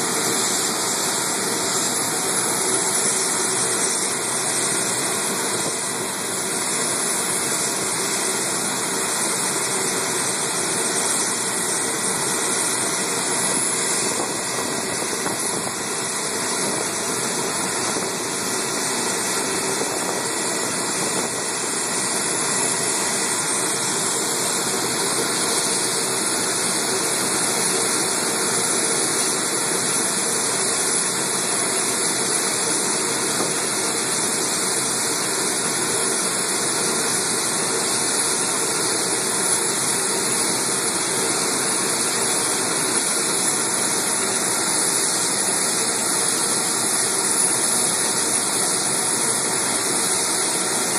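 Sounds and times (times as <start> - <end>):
jet engines idling: 0.0 - 50.9.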